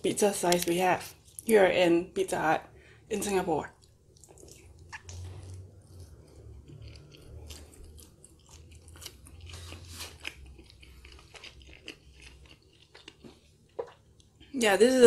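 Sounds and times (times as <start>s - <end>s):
chewing with crunches: 0.4s - 1.8s, 3.2s - 14.6s.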